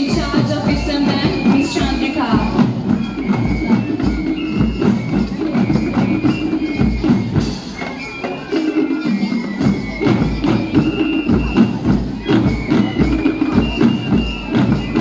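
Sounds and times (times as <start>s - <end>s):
high held melody line: 0.0s - 15.0s
traditional drums beating: 0.0s - 15.0s.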